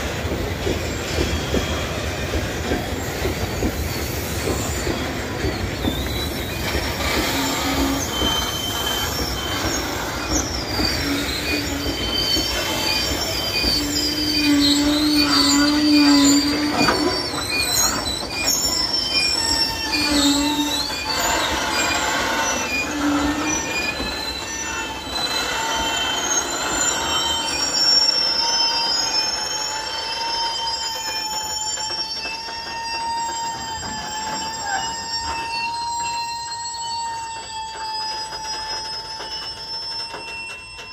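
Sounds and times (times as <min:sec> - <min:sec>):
rumble of rolling freight cars: 0:00.0 - 0:40.9
train wheels squealing: 0:00.0 - 0:40.9.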